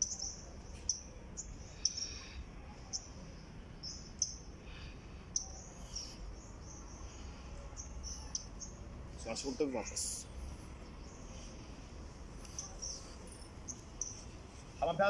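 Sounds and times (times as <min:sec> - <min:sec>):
bird chirping: 0:00.0 - 0:15.0
faint low background noise: 0:00.0 - 0:15.0.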